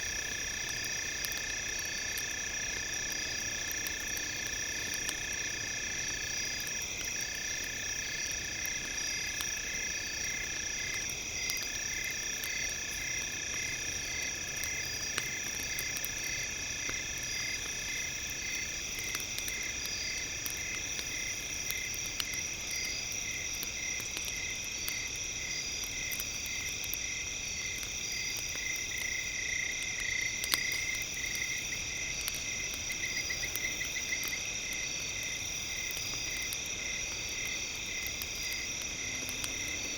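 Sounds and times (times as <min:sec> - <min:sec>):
campfire crackling: 0:00.0 - 0:39.9
campfire pop: 0:00.0 - 0:39.9.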